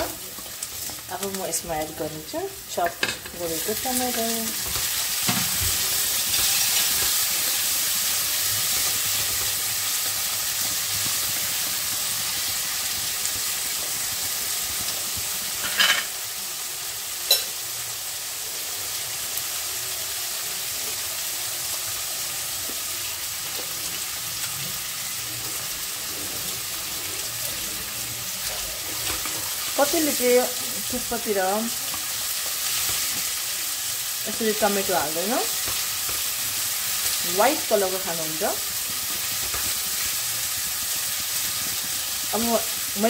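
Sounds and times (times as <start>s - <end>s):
garlic and tomato sizzling in oil: 0.0s - 43.0s.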